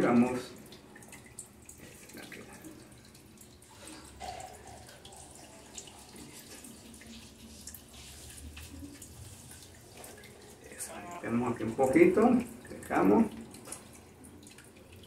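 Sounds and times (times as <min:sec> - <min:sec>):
melt water dripping: 0:00.0 - 0:15.0.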